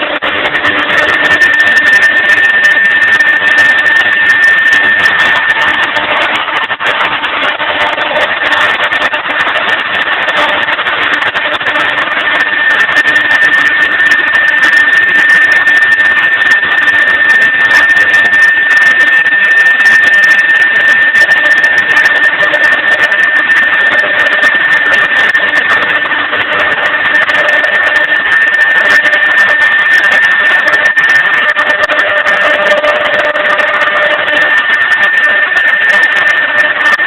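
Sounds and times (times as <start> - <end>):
router whining and rushing: 0.0 - 37.0.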